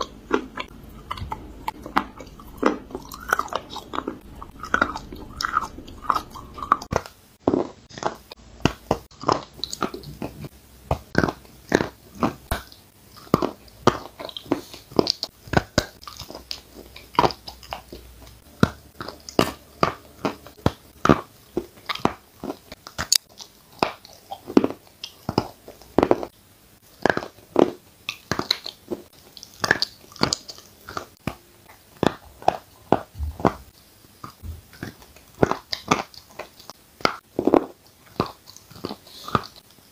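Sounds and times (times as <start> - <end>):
soft chewing: 0.0 - 39.9.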